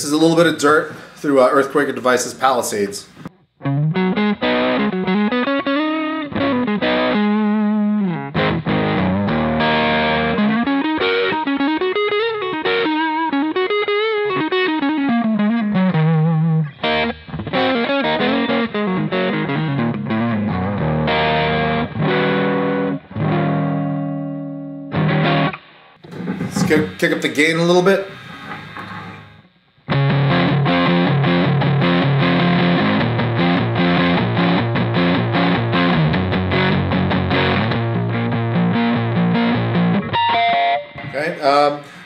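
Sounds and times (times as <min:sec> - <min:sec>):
overdriven electric guitar: 0:03.1 - 0:27.2, 0:28.1 - 0:42.0.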